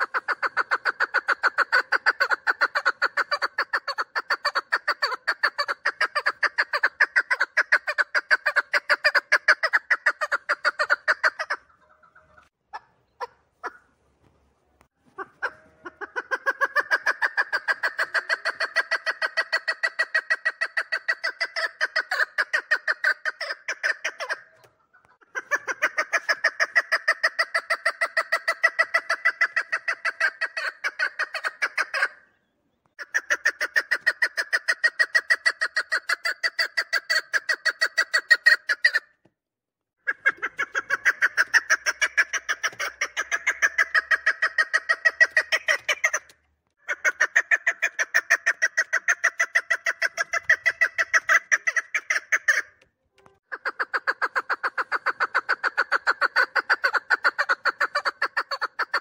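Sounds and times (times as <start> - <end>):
partridge clucking calls: 0.0 - 14.0, 14.8 - 39.2, 40.0 - 59.0.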